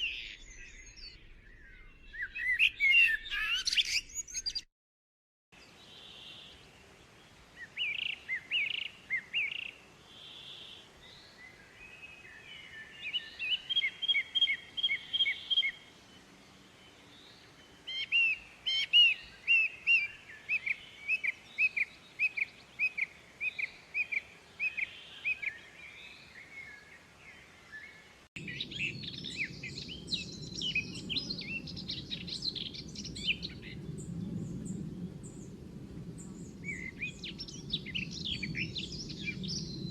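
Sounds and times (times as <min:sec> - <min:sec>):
bird chirping: 0:00.0 - 0:04.7, 0:05.6 - 0:39.9.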